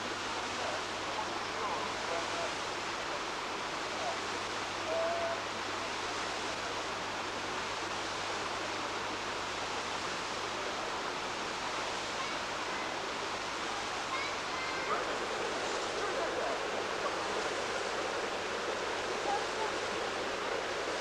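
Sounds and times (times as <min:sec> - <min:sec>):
water running in a rocky stream: 0:00.0 - 0:21.0.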